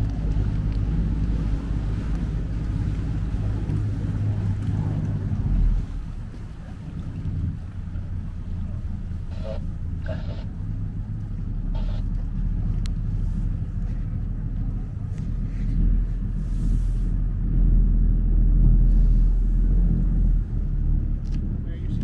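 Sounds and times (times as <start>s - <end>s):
boat motor running: 0.0s - 22.0s
wind buffeting microphone: 0.0s - 22.0s.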